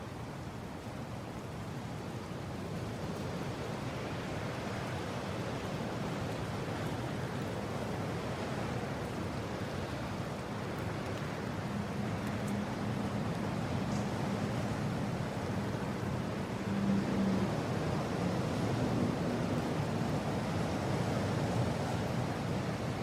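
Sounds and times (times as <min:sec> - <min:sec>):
faint low wind howling: 0:00.0 - 0:23.0.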